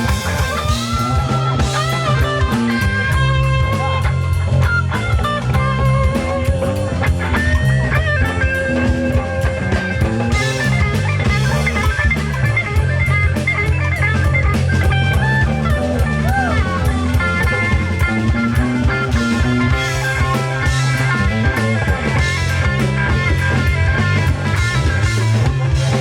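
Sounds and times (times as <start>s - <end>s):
bass guitar: 0.0s - 26.0s
drum kit: 0.0s - 26.0s
electric guitar: 0.0s - 26.0s.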